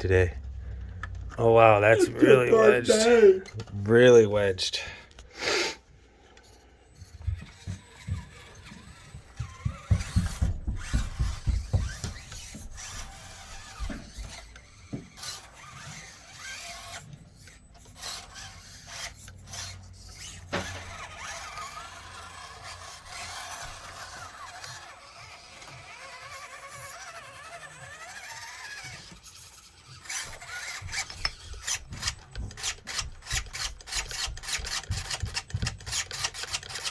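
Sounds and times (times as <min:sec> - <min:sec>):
small electric motor whirring: 0:06.3 - 0:36.9.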